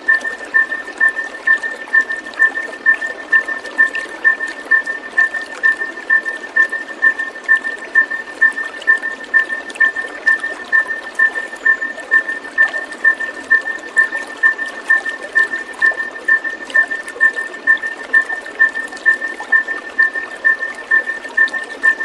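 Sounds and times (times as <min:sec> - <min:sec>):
running water: 0:00.0 - 0:22.0
two-pitch repeated pips: 0:00.0 - 0:22.0.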